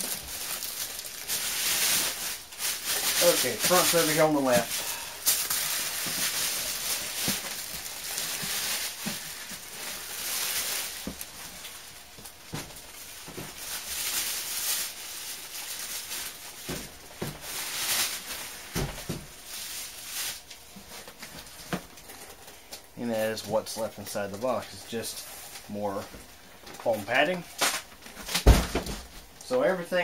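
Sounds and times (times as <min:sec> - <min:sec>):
foam and cardboard rustling: 0:00.0 - 0:22.4, 0:26.8 - 0:29.3.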